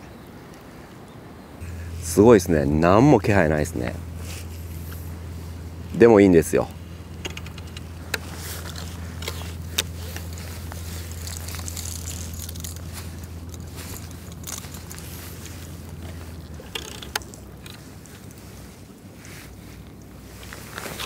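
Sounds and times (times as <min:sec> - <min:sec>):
low engine hum: 0:01.2 - 0:21.0
light scraping: 0:01.6 - 0:21.0.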